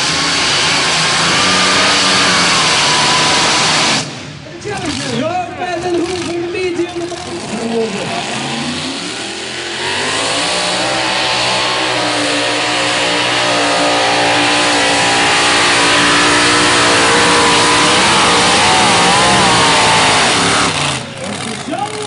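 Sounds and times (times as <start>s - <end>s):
pulling tractor engine running hard: 0.0s - 22.0s.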